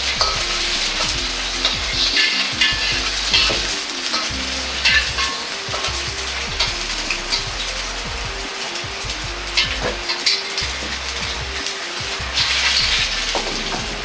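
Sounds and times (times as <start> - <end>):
metal utensil scraping wok: 0.0 - 8.8, 9.5 - 14.0
egg sizzling in oil: 0.0 - 14.0.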